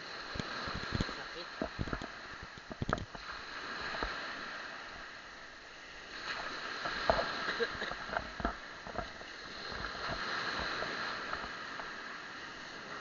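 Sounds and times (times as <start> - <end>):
seawater splashing: 0.0 - 13.0.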